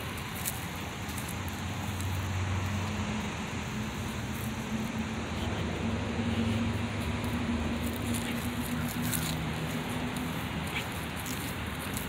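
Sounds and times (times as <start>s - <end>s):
engine humming: 0.0s - 12.0s
outdoor noise rush: 0.0s - 12.0s.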